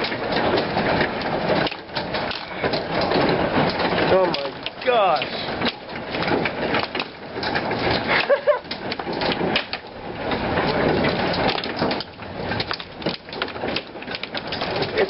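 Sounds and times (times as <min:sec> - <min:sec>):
hail clattering on hard surfaces: 0:00.0 - 0:15.0.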